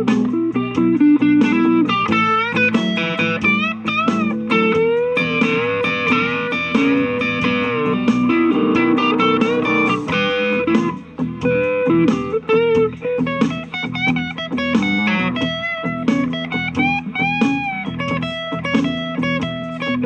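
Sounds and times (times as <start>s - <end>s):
clean electric guitar blues lead: 0.0s - 20.0s.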